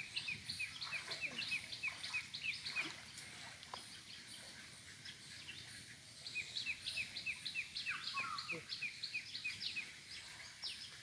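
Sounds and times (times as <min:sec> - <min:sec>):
bird chirping: 0:00.0 - 0:03.2, 0:03.8 - 0:11.0.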